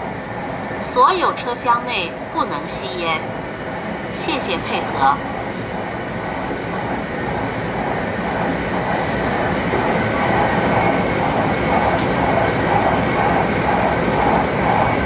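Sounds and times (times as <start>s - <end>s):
faint steady whine: 0.0s - 15.0s
train wheels rumbling: 0.0s - 15.0s.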